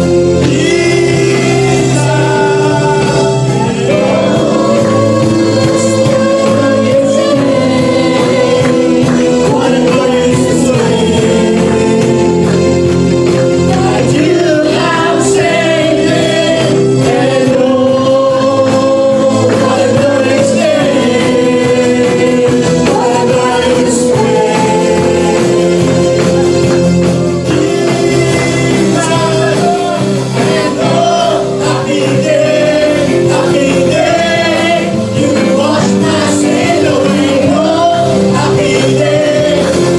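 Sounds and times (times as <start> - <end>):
held instrumental chords: 0.0 - 39.9
voices singing worship song: 0.0 - 39.9.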